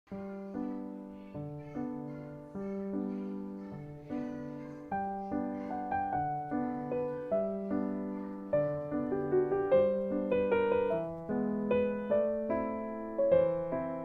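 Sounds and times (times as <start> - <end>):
gentle piano music: 0.1 - 14.0.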